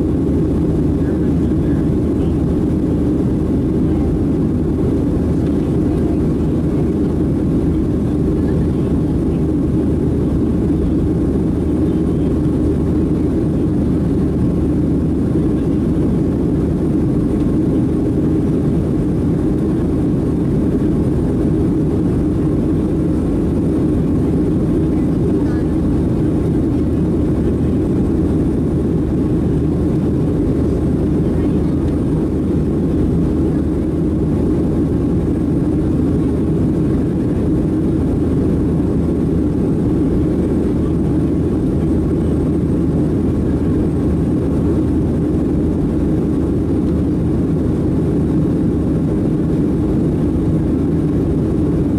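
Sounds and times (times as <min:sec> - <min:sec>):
airplane cabin drone: 0:00.0 - 0:51.9.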